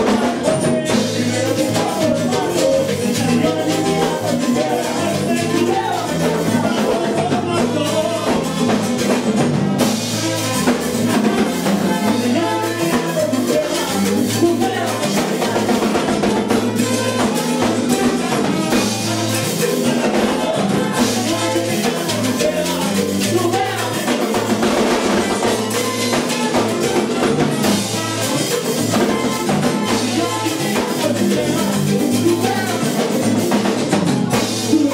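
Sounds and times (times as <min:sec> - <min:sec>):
live salsa band playing: 0:00.0 - 0:34.9.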